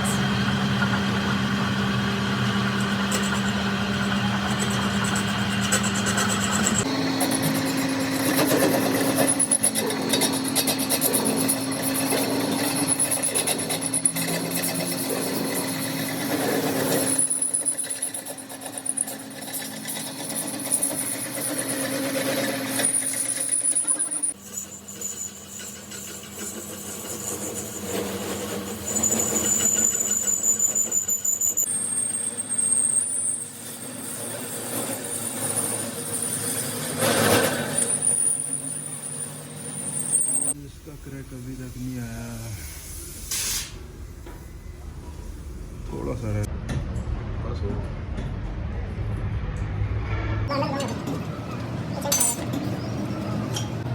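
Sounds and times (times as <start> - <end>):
metalworking machine whining: 0.0 - 53.9.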